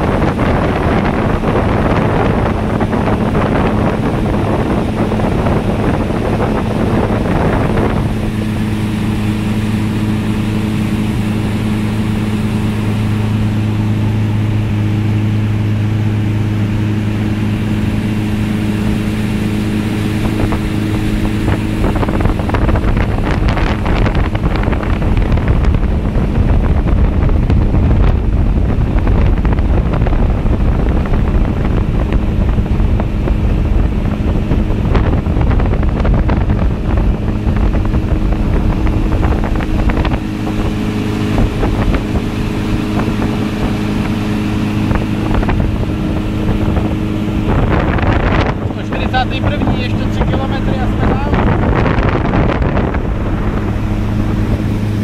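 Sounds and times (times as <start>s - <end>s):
motorboat engine hum: 0.0s - 55.0s
rushing water: 0.0s - 55.0s
wind buffeting microphone: 0.0s - 55.0s.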